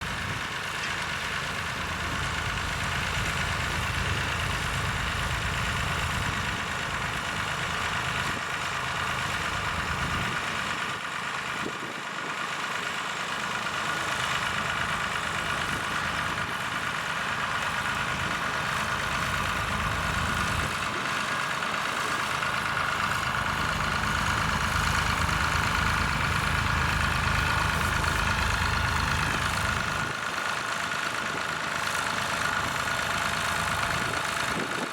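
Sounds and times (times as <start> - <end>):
tractor engine rumbling: 0.0 - 34.9.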